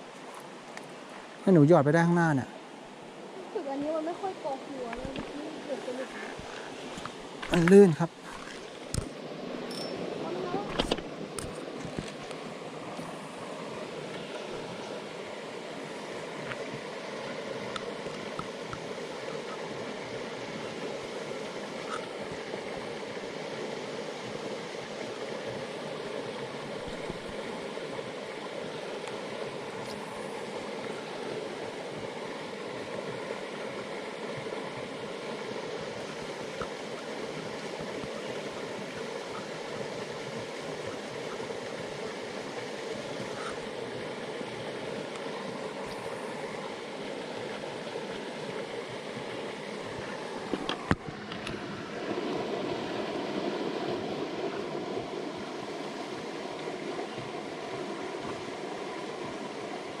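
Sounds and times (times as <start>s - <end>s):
stream flowing: 0.0s - 60.0s.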